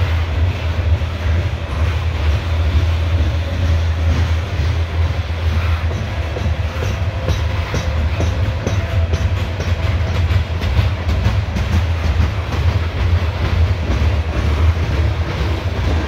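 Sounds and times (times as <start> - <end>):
rumble of train wheels on rail: 0.0 - 16.0
wheels clacking over rail joints: 0.0 - 16.0.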